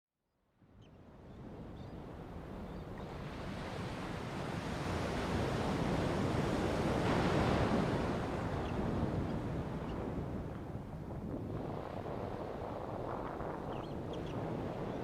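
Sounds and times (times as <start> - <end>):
wind buffeting microphone: 1.1 - 15.0
ocean surf: 2.2 - 15.0.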